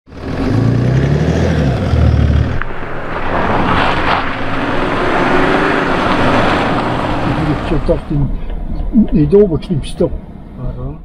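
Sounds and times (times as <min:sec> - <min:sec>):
car driving on gravel: 0:00.1 - 0:11.0
low engine hum: 0:00.1 - 0:11.0.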